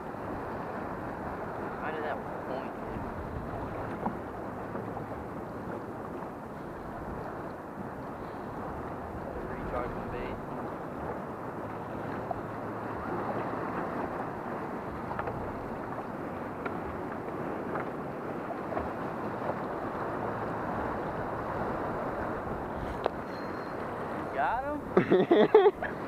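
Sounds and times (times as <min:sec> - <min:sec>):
water sloshing against boat: 0:00.0 - 0:26.0
wind on microphone: 0:00.0 - 0:26.0.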